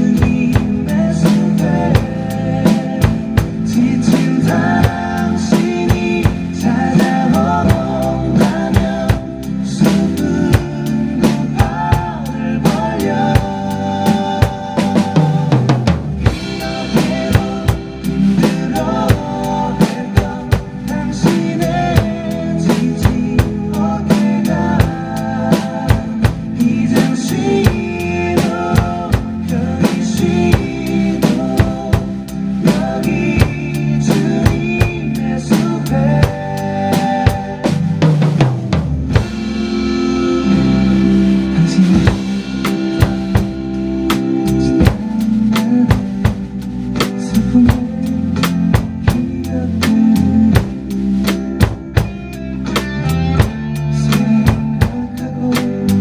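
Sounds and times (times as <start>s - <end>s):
acoustic drum kit playing: 0.0s - 56.0s
backing track music: 0.0s - 56.0s.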